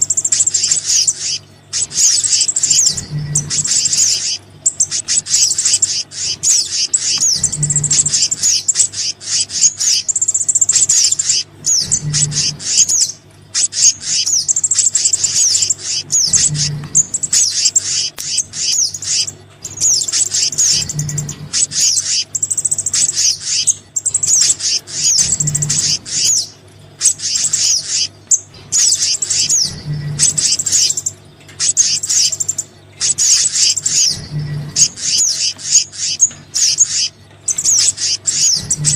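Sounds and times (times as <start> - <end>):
songbirds chirping and trilling: 0.0 - 38.9
steady low hum: 0.0 - 38.9.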